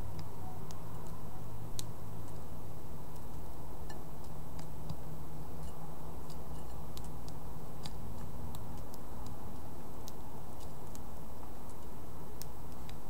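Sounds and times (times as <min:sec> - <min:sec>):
beak pecking seed and dish: 0:00.0 - 0:13.0
low background rumble: 0:00.0 - 0:13.0.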